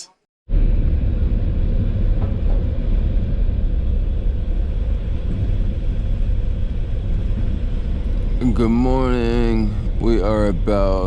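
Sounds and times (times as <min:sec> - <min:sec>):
faint steady hum: 0:00.0 - 0:11.0
train rumble: 0:00.0 - 0:11.0.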